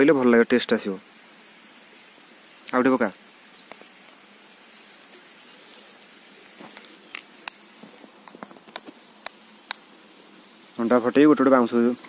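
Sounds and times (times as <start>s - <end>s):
faint steady background hiss: 0.0s - 12.0s.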